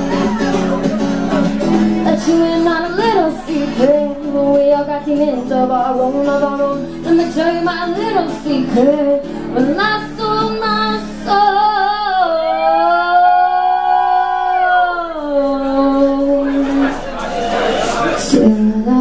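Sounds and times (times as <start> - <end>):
acoustic guitar: 0.0 - 19.0
woman singing: 1.8 - 17.0, 18.2 - 19.0.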